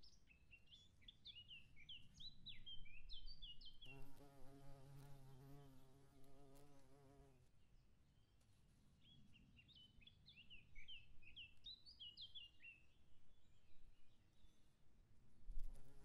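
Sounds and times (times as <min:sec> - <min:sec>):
songbird chirping: 0:00.0 - 0:04.8, 0:06.6 - 0:14.8.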